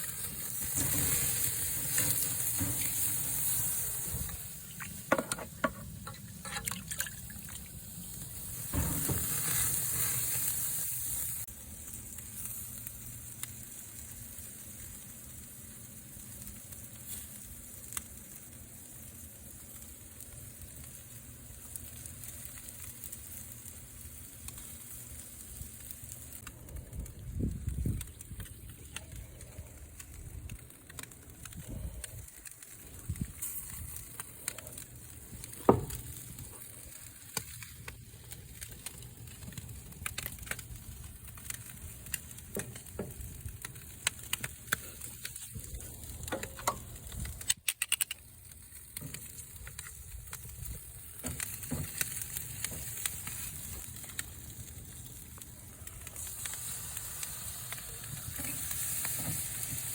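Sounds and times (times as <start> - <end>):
fire crackles and pops: 0.0 - 59.9
meat sizzling over fire: 0.0 - 59.9.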